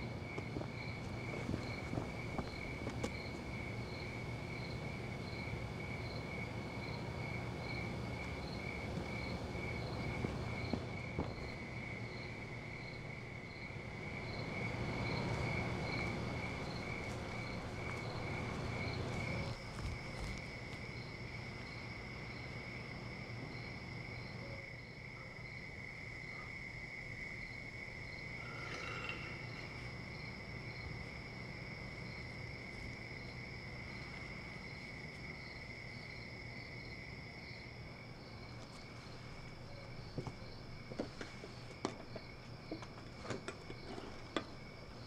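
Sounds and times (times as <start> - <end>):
crickets trilling: 0.0 - 45.0
higher cricket chirp pulsing: 0.0 - 45.0.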